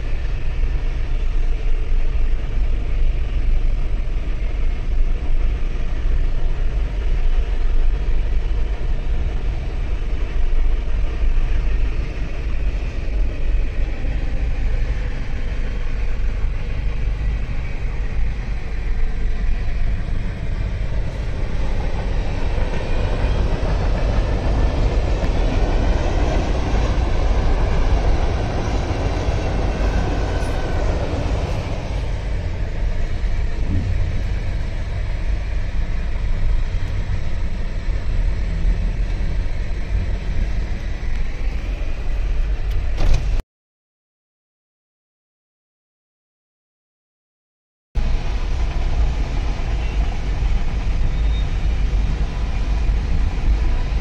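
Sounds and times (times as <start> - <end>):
freight train wheels rolling: 0.0 - 43.4.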